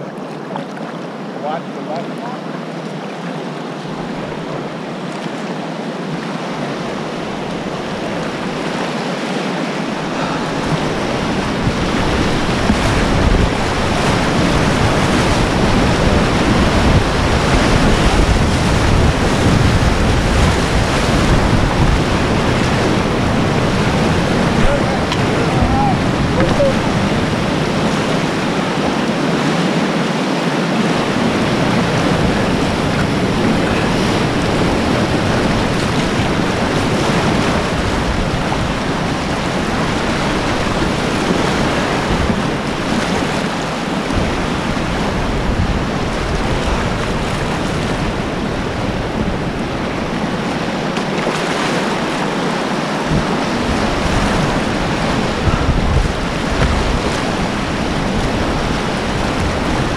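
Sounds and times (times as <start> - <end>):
whitewater rapids rushing: 0.0 - 59.9
wind rumble on microphone: 4.0 - 59.9.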